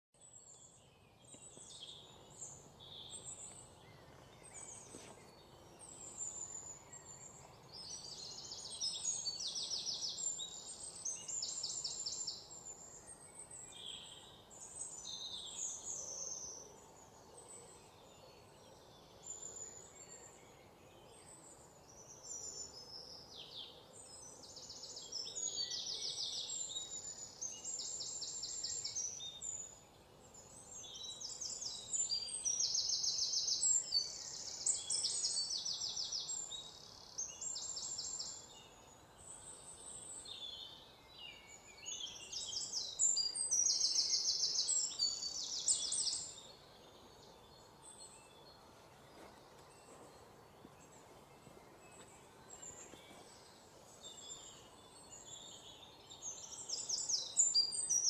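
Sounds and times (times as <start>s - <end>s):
birdsong trills and chirps: 0.1s - 58.0s.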